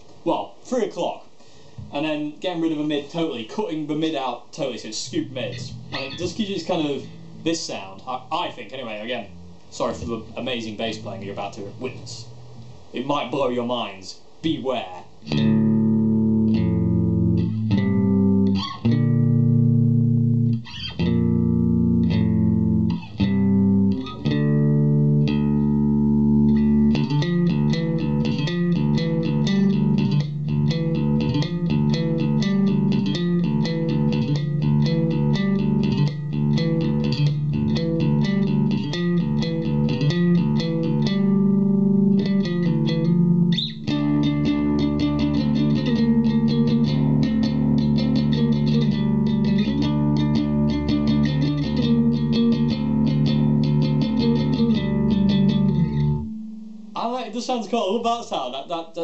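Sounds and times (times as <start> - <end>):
electric bass guitar notes: 3.9 - 13.2, 15.2 - 57.2.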